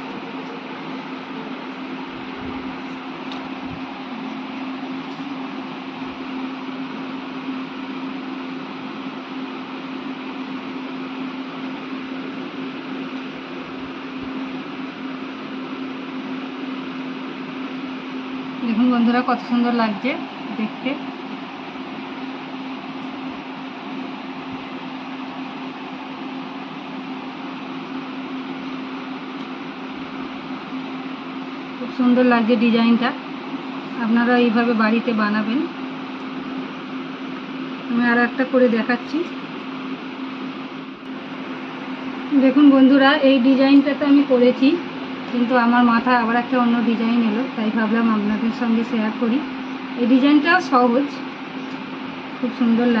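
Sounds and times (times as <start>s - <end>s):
low machine hum: 0.0s - 53.0s.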